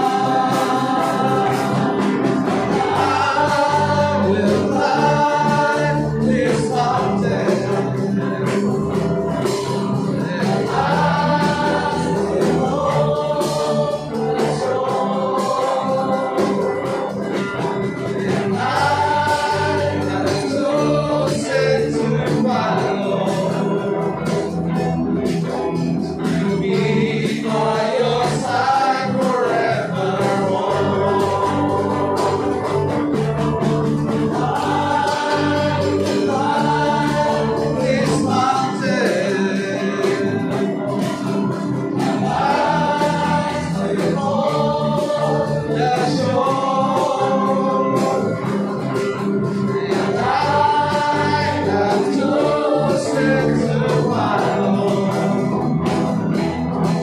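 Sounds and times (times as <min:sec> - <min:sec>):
man singing: 0:00.0 - 0:24.6, 0:25.3 - 0:40.7, 0:42.0 - 0:56.0
acoustic guitar: 0:00.0 - 0:57.0
electric guitar: 0:00.0 - 0:57.0
keyboard: 0:00.0 - 0:57.0
percussion: 0:00.0 - 0:57.0.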